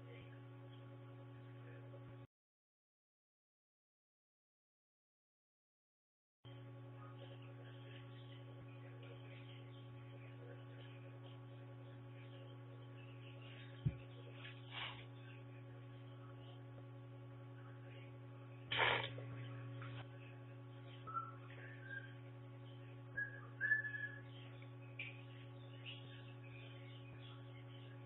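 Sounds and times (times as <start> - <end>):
camera electrical hum: 0.0 - 2.3, 6.5 - 28.0.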